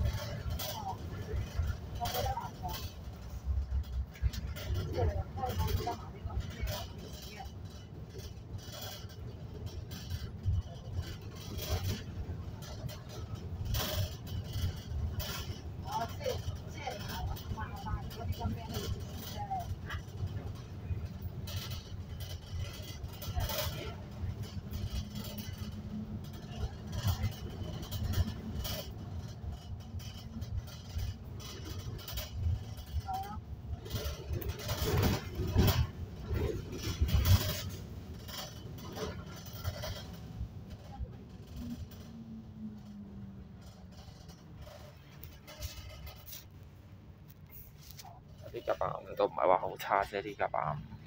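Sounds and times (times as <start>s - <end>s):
bus engine and road rumble: 0.0s - 51.0s.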